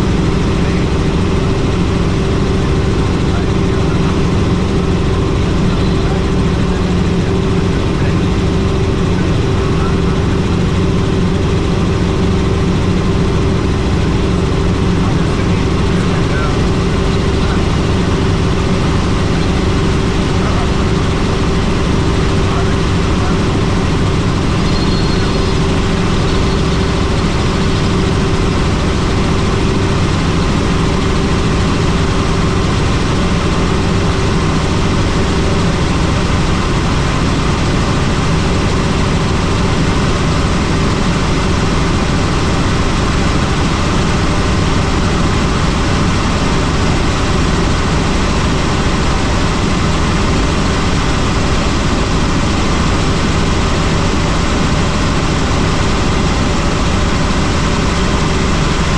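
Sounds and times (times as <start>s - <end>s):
helicopter engine and rotor: 0.0s - 58.9s.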